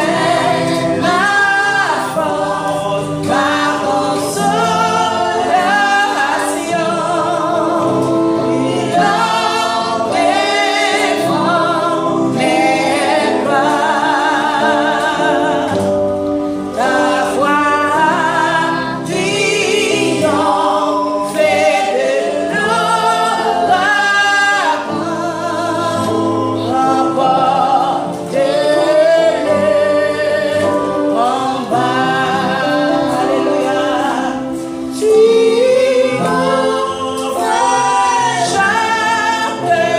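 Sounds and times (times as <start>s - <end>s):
woman and children singing gospel: 0.0s - 16.0s, 16.7s - 39.9s.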